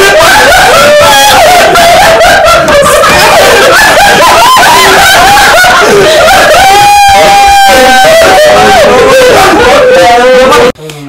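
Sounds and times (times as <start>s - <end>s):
people laughing and shrieking: 0.0s - 10.8s.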